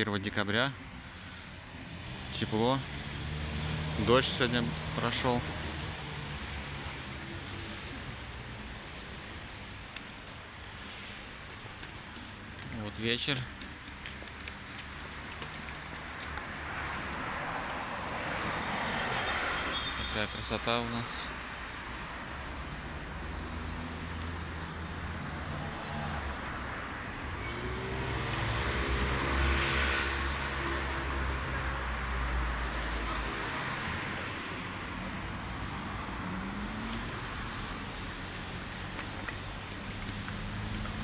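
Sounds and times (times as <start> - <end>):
cars passing on wet road: 0.2 - 41.0.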